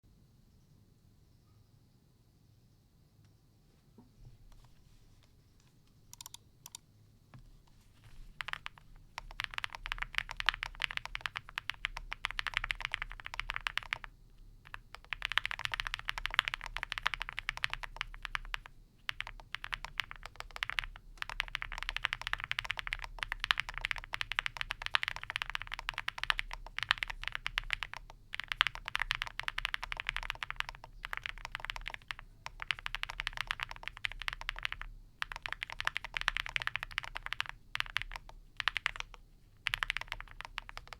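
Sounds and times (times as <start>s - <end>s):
mechanical keyboard typing: 6.1s - 6.8s, 8.3s - 40.9s.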